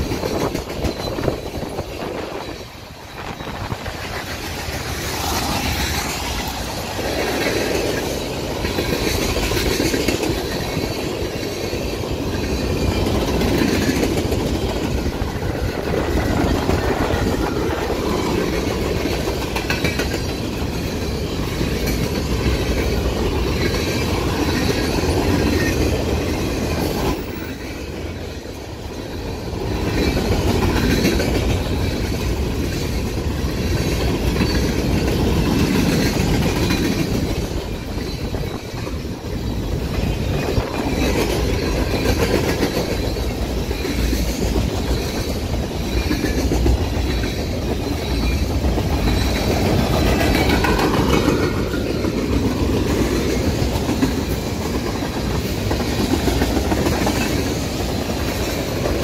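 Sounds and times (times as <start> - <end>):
steel wheels on rails: 0.0 - 59.0.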